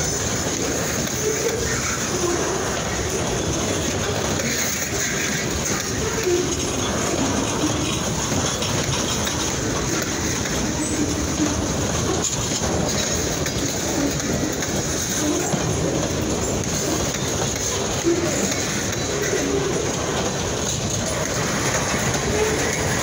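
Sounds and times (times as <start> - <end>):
freight train rumbling on rails: 0.0 - 23.0.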